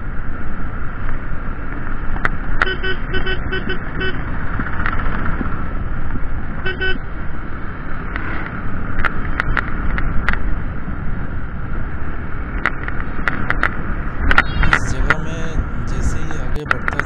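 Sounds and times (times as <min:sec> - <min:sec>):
road noise: 0:00.0 - 0:17.0
rushing wind: 0:00.0 - 0:17.0.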